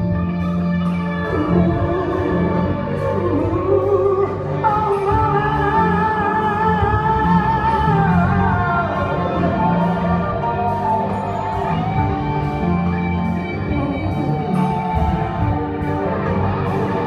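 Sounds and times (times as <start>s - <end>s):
pop band and orchestra: 0.0s - 17.0s.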